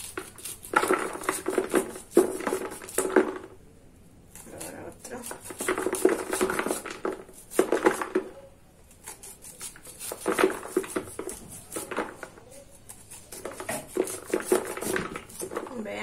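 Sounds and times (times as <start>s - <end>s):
knife scraping corn kernels: 0.0s - 3.3s, 4.3s - 8.1s, 8.9s - 16.0s.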